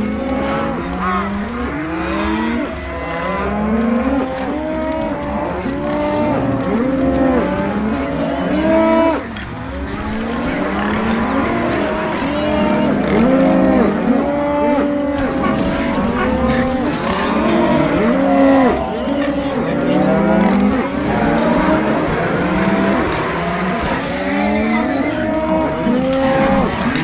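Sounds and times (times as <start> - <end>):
layered stomach growls: 0.0 - 27.0.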